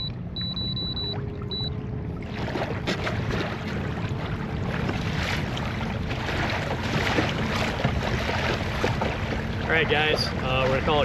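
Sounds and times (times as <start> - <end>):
water splashing against a hull: 0.0 - 11.0.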